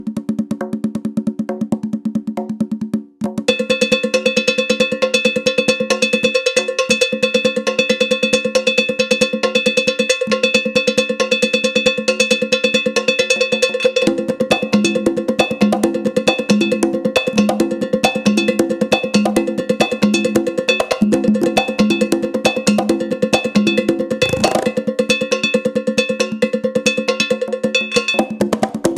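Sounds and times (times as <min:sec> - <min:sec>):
drums: 0:00.0 - 0:28.9.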